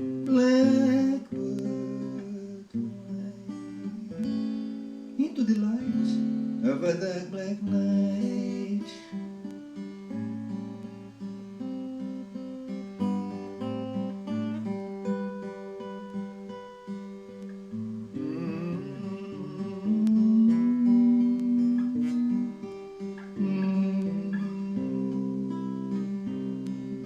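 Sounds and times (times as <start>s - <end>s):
acoustic guitar plucked notes: 0.0s - 27.0s.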